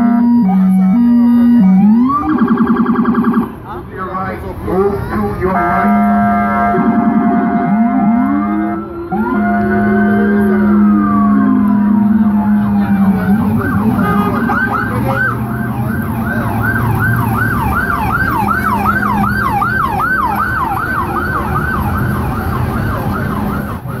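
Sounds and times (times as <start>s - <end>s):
police siren wail and yelp: 0.0s - 3.6s, 4.7s - 24.0s
city traffic noise: 0.0s - 24.0s.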